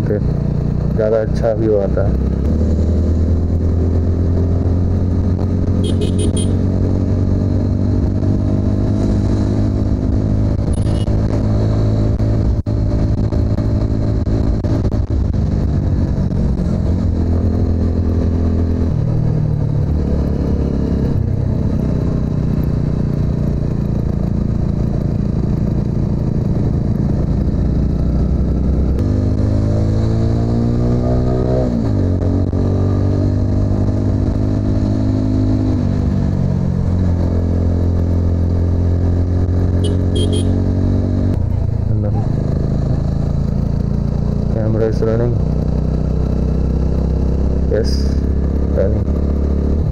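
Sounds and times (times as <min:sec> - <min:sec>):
motorcycle engine revving: 0:01.9 - 0:49.9.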